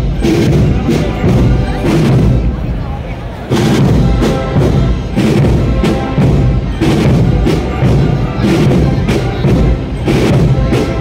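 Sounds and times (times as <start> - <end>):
drum strikes: 0.0 - 2.9, 3.5 - 11.0
marching band playing a march: 0.0 - 11.0.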